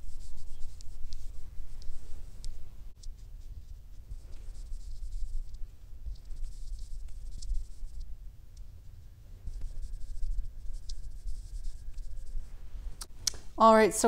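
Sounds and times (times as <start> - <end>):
cotton pad brushing skin: 0.0 - 8.9, 9.5 - 13.1.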